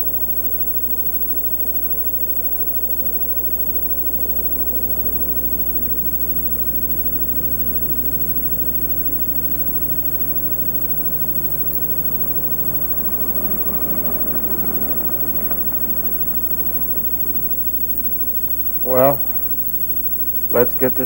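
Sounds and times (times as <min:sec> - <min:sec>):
tape hiss and hum: 0:00.0 - 0:21.0
low engine drone: 0:01.4 - 0:21.0.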